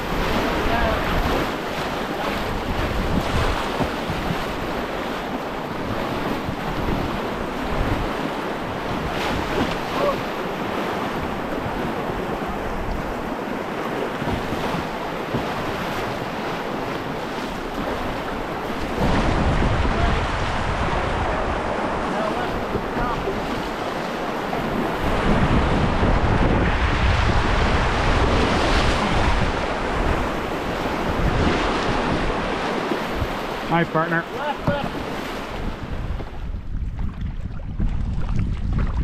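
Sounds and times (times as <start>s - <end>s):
river water rushing: 0.0s - 36.0s
wind buffeting microphone: 0.0s - 39.0s.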